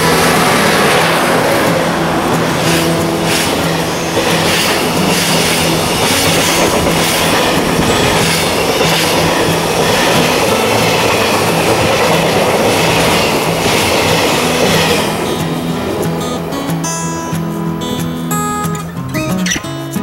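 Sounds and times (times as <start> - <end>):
freight train wheels rumbling: 0.0 - 18.9.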